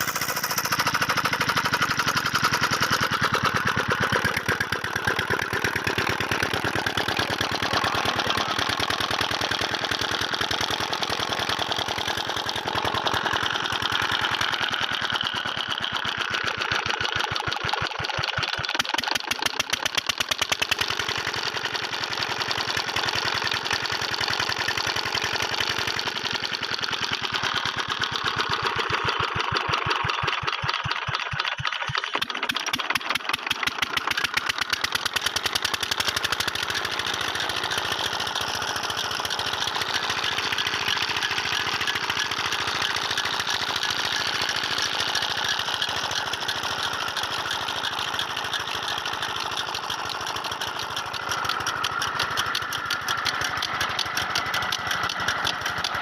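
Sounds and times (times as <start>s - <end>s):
diesel pump engine running: 0.0s - 56.0s.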